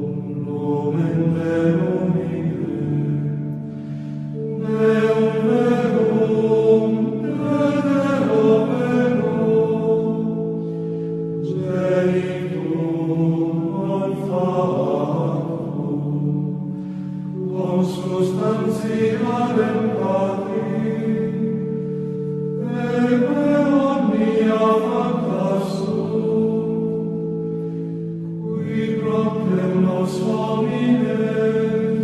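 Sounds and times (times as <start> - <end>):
hymn singing: 0.0 - 32.0
sustained accompanying chords: 0.0 - 32.0.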